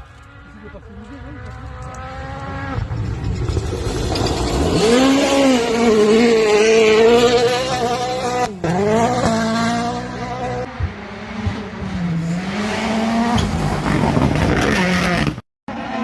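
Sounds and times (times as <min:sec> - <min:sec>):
rally car engine revving: 0:00.1 - 0:16.0.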